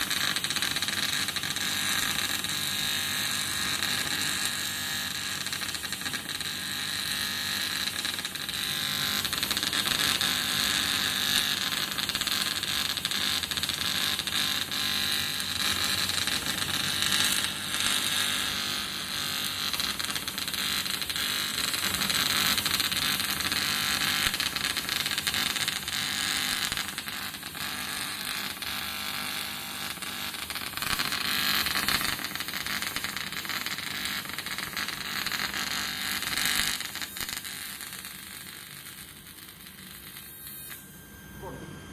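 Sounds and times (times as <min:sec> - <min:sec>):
welding arc buzzing: 0:00.0 - 0:41.9.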